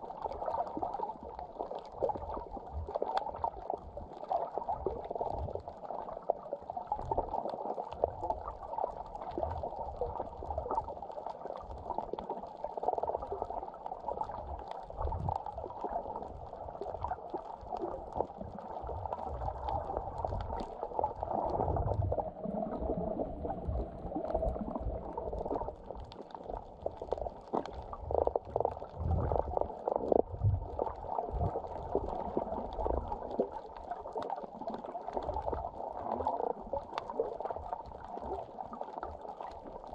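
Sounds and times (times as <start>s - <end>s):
low rumbles and crackling: 0.0s - 39.9s
underwater sloshing and gurgling: 0.0s - 39.9s.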